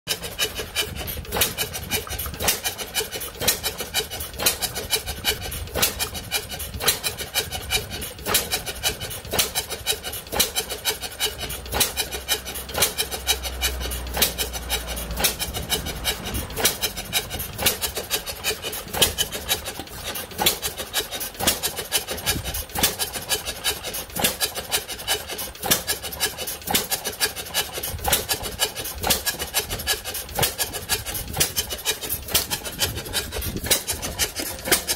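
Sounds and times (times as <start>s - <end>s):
stationary engine clattering: 0.1s - 34.9s.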